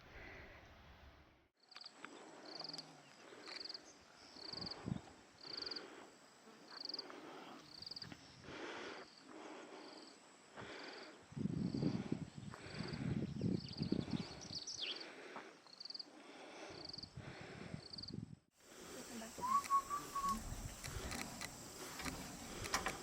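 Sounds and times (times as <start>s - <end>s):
insect chirping: 1.6s - 23.0s.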